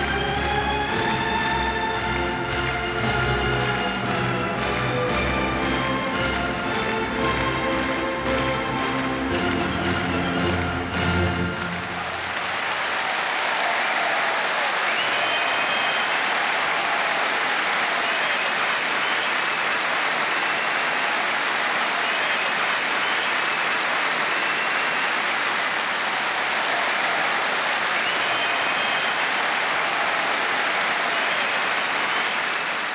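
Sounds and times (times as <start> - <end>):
large audience applauding: 0.0 - 32.9.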